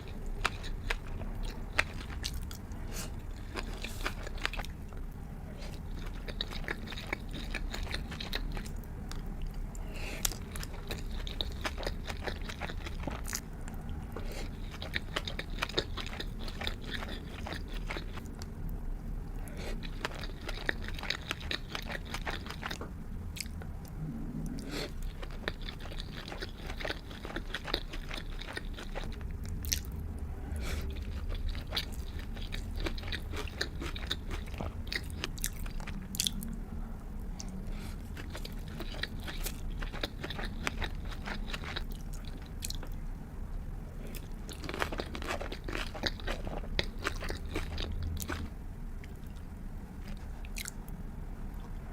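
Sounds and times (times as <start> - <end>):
chewing with wet mouth smacks: 0.0 - 18.8, 19.5 - 36.6, 37.2 - 43.0, 44.0 - 51.9.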